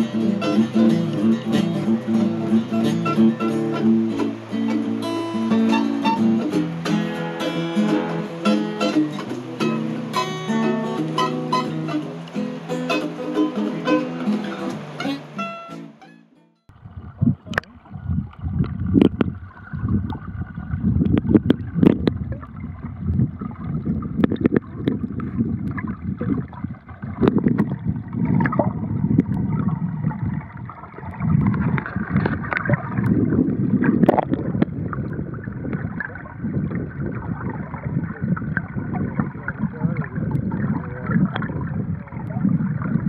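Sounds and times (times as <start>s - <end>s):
muffled underwater river current: 0.0s - 15.5s, 16.7s - 43.0s.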